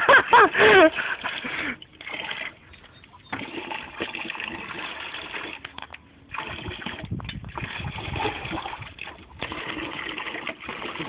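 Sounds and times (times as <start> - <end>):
water splashing in a bath: 0.0 - 11.0.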